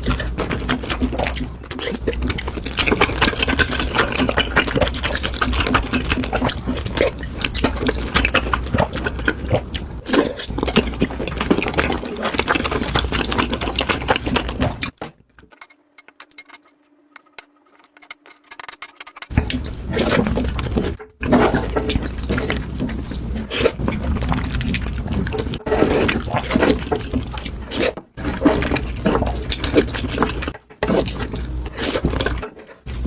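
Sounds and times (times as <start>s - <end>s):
wet chewing and slurping: 0.0s - 33.0s.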